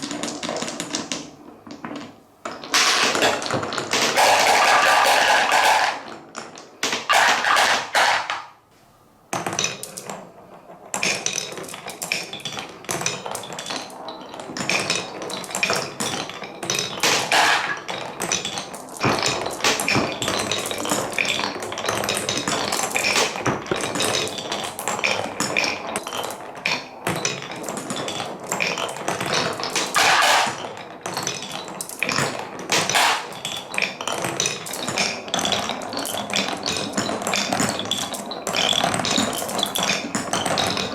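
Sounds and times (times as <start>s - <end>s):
marbles clattering on wooden track: 0.0s - 8.6s, 9.3s - 40.9s.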